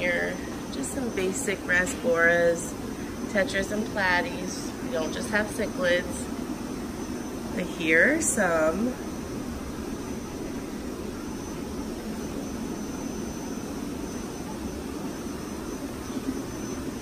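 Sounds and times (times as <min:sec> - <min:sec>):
aquarium air pumps humming: 0:00.0 - 0:17.0
faint high whine: 0:00.0 - 0:17.0.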